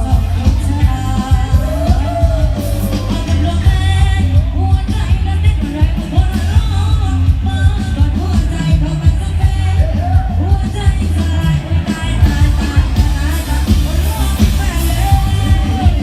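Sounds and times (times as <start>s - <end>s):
heavy bass beat: 0.0s - 16.0s
person singing: 0.0s - 16.0s.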